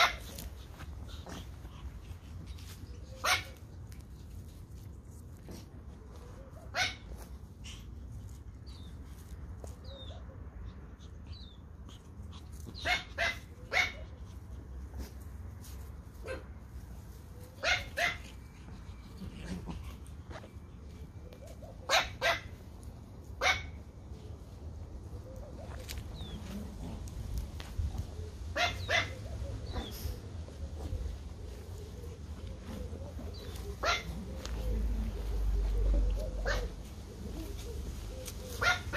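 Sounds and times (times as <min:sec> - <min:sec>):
puppies yipping: 0:00.0 - 0:15.2, 0:17.1 - 0:22.7, 0:27.6 - 0:38.9.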